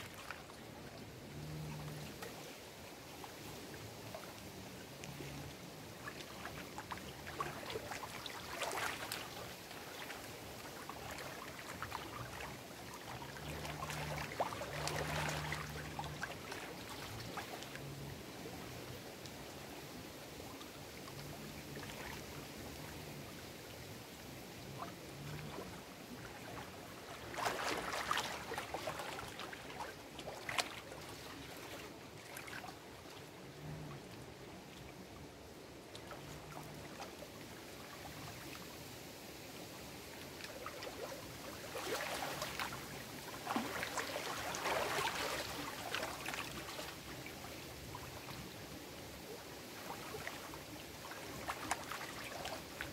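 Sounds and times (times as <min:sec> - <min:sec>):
waves lapping against rocks: 0:00.0 - 0:52.9.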